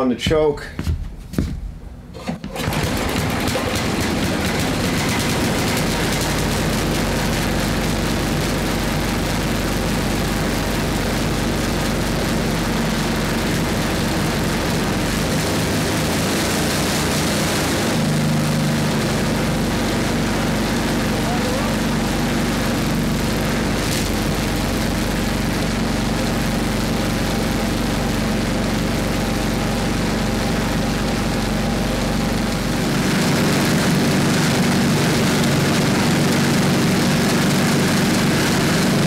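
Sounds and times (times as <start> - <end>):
snowblower engine running: 2.2 - 39.0.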